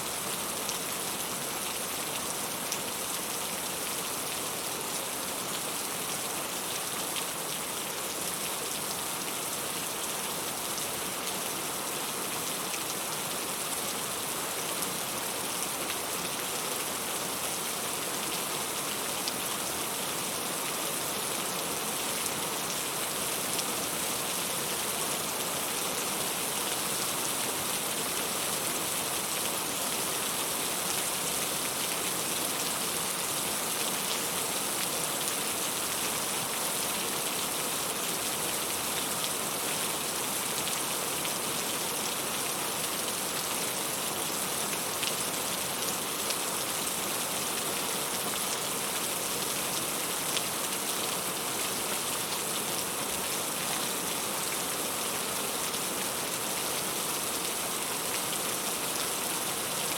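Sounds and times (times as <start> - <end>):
steady rain pattering: 0.1 - 59.9.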